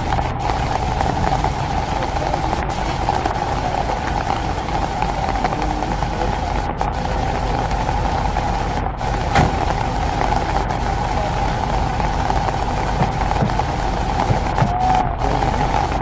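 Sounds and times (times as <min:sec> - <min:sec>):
sharp crack: 0:00.0 - 0:15.9
low continuous drone: 0:00.0 - 0:16.0
rain hiss: 0:00.0 - 0:16.0.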